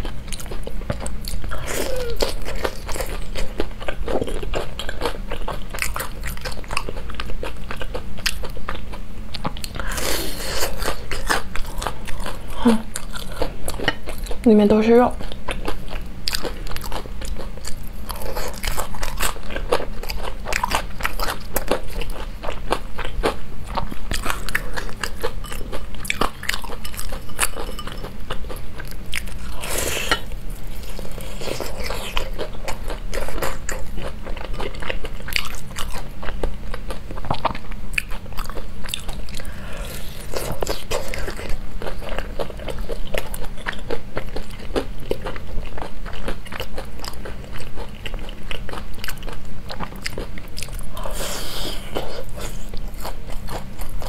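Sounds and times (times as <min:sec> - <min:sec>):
crunchy food being chewed: 0:00.0 - 0:14.4, 0:15.1 - 0:54.0
low steady hum: 0:00.0 - 0:54.0.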